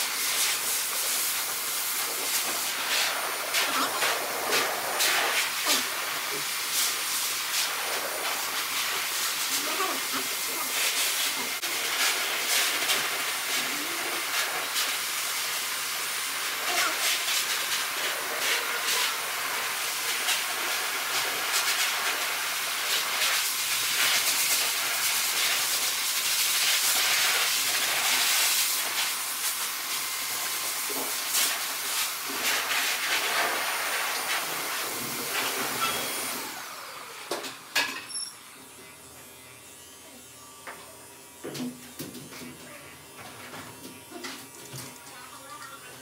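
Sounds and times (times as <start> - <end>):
electric clippers cutting fur: 0.0 - 46.0.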